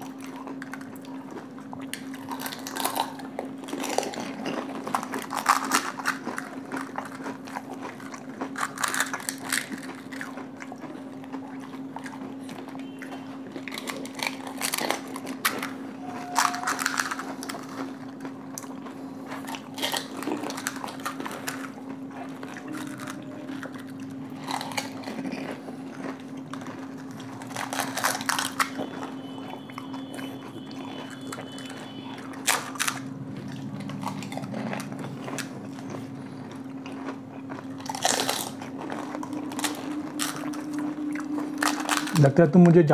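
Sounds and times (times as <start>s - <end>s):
crunchy chewing: 0.0s - 42.9s
steady low hum: 0.0s - 42.9s.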